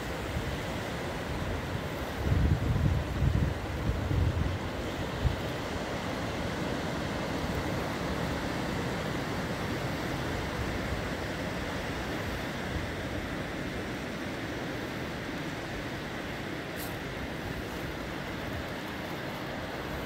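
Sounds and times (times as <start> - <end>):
sea surf breaking: 0.0 - 20.0
wind rumbling on microphone: 0.0 - 20.0.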